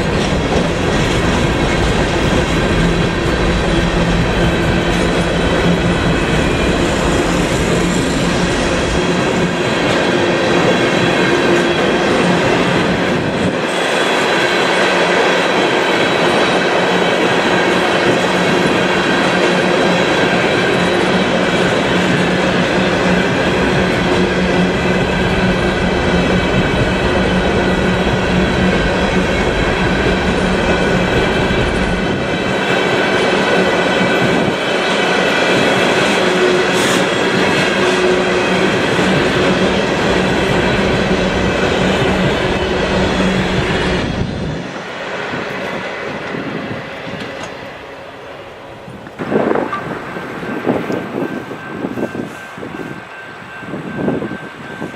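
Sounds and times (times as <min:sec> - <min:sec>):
train wheels on track: 0:00.0 - 0:54.9.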